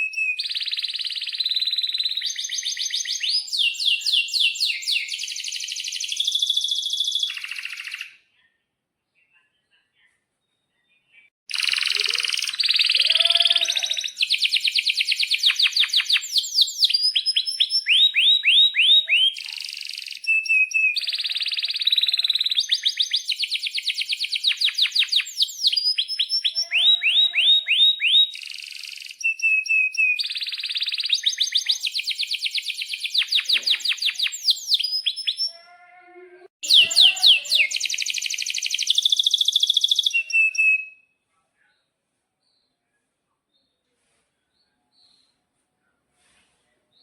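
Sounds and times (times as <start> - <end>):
canary singing trills: 0.0 - 8.2, 11.5 - 41.0.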